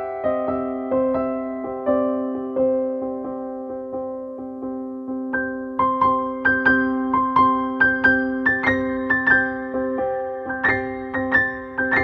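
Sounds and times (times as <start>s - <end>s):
soft piano melody: 0.0s - 12.0s.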